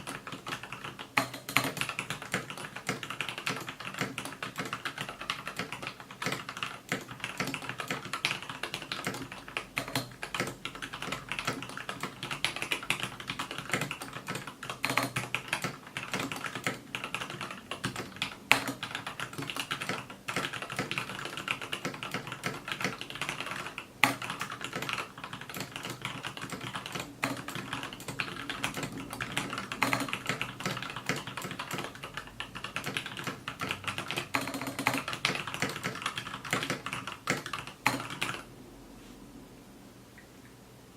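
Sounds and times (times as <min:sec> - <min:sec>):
mechanical keyboard typing: 0:00.0 - 0:38.5.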